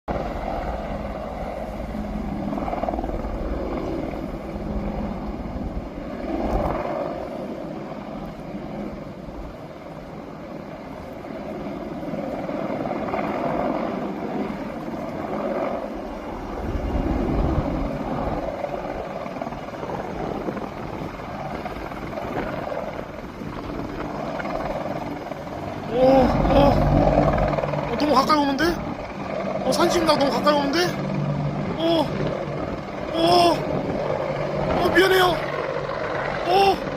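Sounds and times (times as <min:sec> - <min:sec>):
helicopter flying low: 0:00.1 - 0:36.9.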